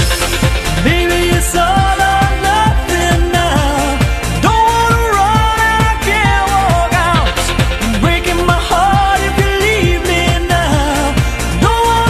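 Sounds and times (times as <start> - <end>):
dance-pop song: 0.0 - 12.0
woman singing: 0.6 - 12.0.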